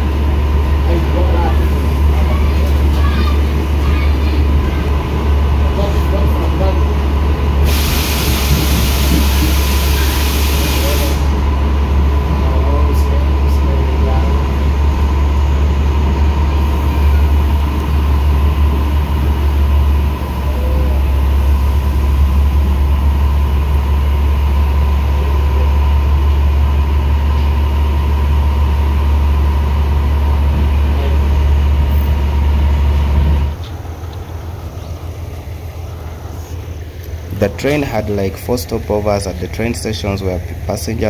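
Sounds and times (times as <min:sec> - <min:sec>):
train rumble inside carriage: 0:00.0 - 0:41.0.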